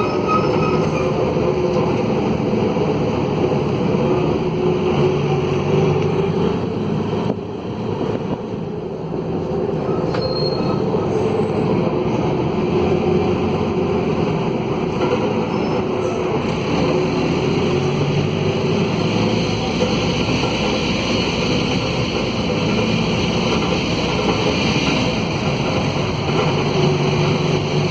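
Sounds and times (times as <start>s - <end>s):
bus diesel engine with broken exhaust: 0.0s - 27.9s.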